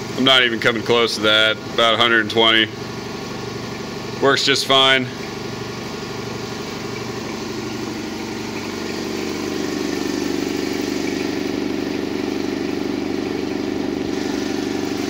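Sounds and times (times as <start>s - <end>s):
air compressor pump running: 0.0s - 15.0s.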